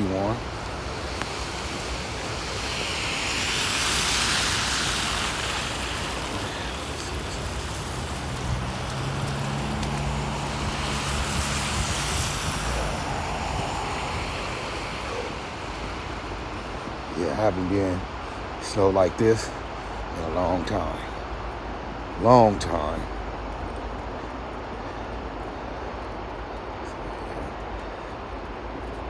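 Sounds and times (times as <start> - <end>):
low engine hum: 0.0 - 29.0
vehicle tyre hiss passing: 0.0 - 29.0.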